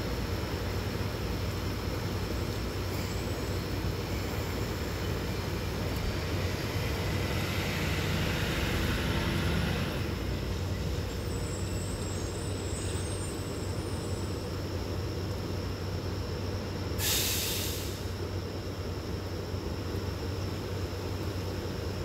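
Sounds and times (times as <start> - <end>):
low rumble and hiss: 0.0 - 22.0.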